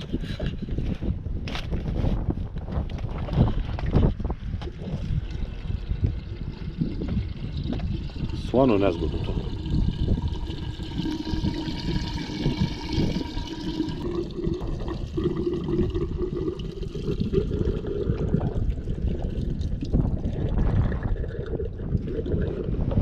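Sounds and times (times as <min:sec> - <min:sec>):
fuel pouring into tank: 0:03.0 - 0:23.0.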